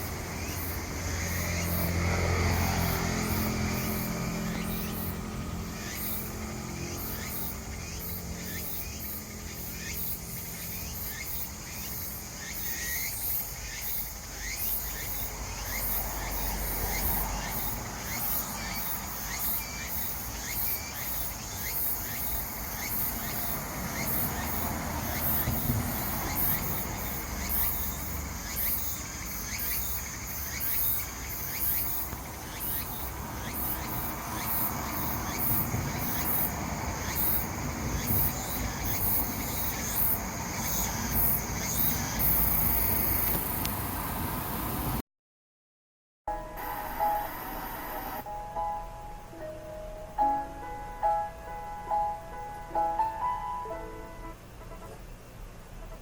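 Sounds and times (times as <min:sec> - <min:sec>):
cicadas pulsing song: 0:00.0 - 0:45.0, 0:46.3 - 0:56.0
crickets chirping: 0:00.0 - 0:45.0, 0:46.3 - 0:56.0.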